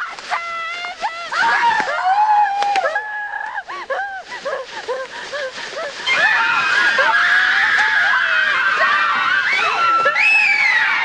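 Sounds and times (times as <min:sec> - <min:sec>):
voices screaming and wailing: 0:00.0 - 0:11.0.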